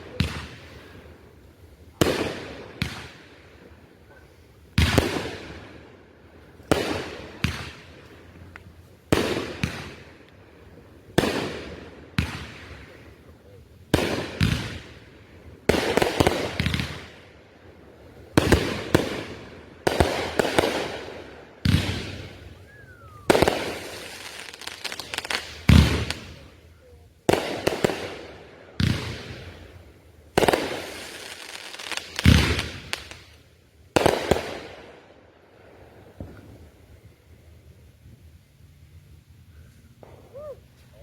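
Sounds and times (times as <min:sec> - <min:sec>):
fireworks banging and crackling: 0:00.0 - 0:37.2, 0:39.7 - 0:41.0.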